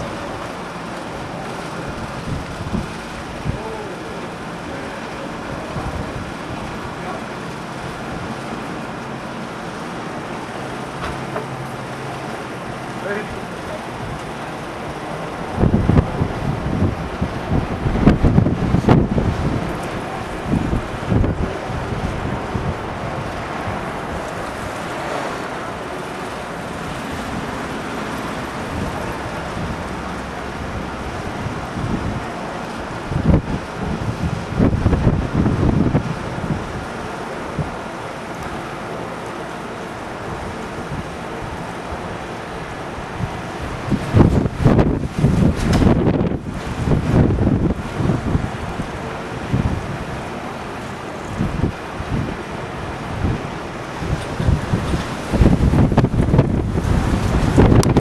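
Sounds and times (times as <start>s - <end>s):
wind buffeting the microphone: 0.0s - 58.0s.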